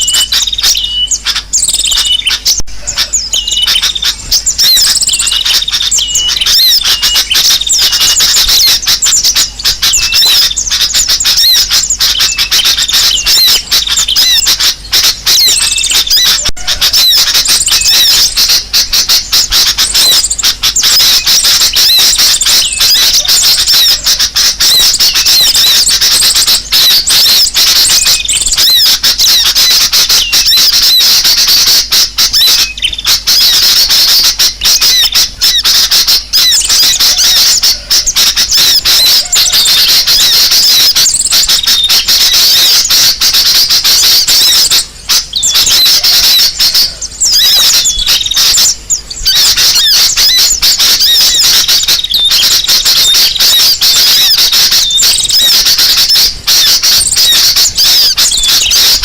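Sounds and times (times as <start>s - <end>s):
chorus of small birds chirping: 0.0s - 59.0s.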